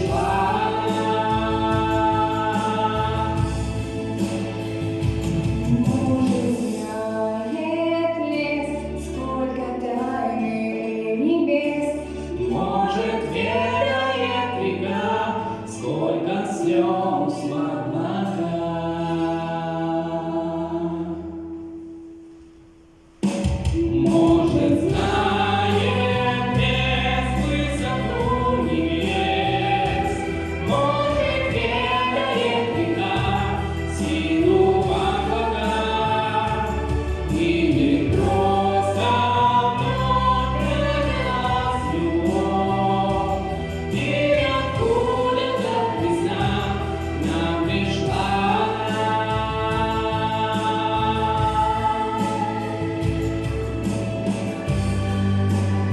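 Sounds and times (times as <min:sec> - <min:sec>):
voices singing: 0:00.0 - 0:21.4, 0:23.6 - 0:55.9
instrumental backing with bass: 0:00.0 - 0:55.9.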